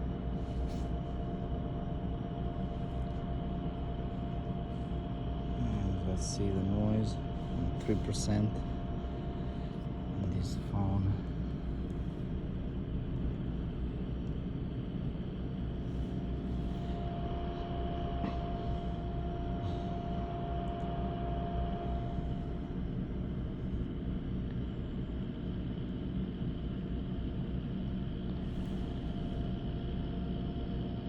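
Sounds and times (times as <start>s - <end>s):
faint steady whine: 0.0s - 31.0s.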